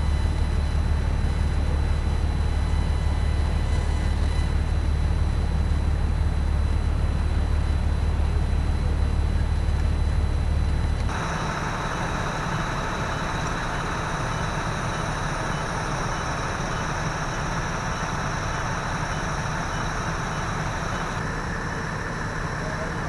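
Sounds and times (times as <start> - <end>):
faint high whines: 0.0 - 23.0
vehicle engines idling: 0.0 - 23.0.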